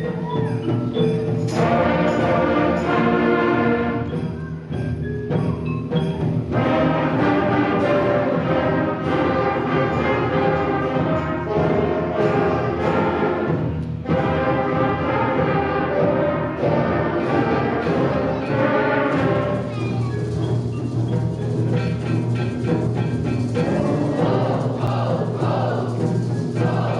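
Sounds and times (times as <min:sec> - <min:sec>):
concert band playing: 0:00.0 - 0:26.9
drum strokes: 0:00.0 - 0:26.9.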